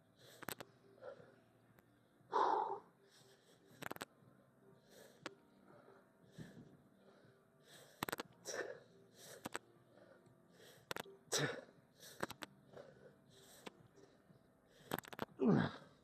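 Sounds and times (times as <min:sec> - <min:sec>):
person breathing hard: 0:02.3 - 0:04.0, 0:04.8 - 0:16.0.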